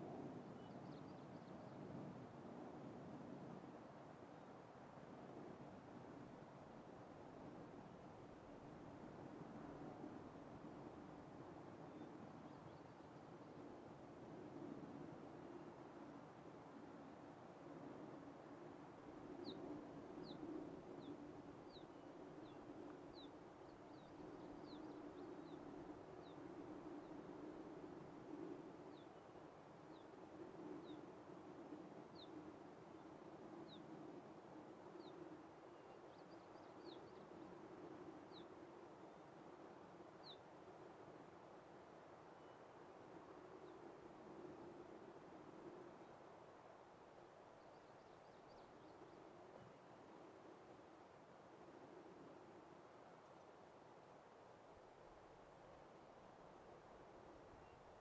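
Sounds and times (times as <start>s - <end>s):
faint outdoor hiss: 0.0s - 58.0s.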